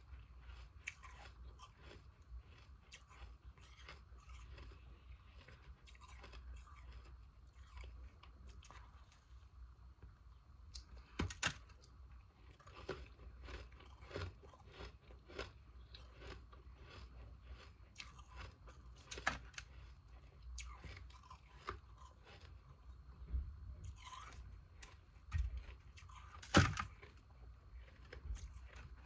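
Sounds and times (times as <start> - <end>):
ice being chewed: 0.0 - 9.4, 10.7 - 23.2, 23.8 - 29.0.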